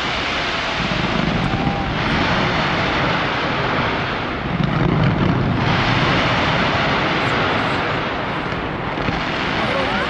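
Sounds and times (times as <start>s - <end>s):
fireworks barrage rumble: 0.0s - 10.0s
sharp firework bangs: 0.0s - 10.0s.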